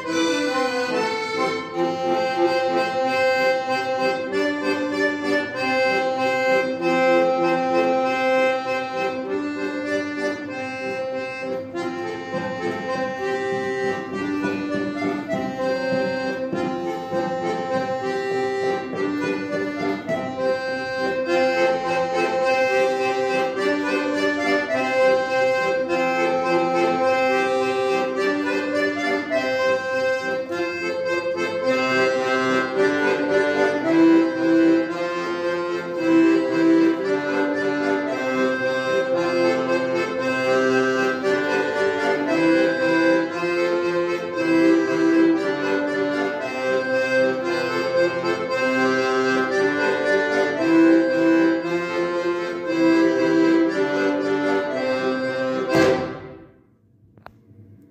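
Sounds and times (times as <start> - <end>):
accordions playing: 0.0 - 57.9.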